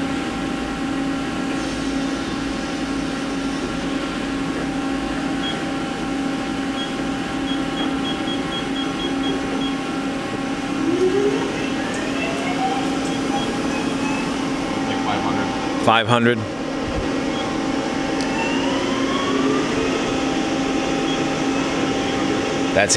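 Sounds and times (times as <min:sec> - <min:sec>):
lathe spindle humming: 0:00.0 - 0:22.9
spindle rising whine: 0:00.0 - 0:22.9.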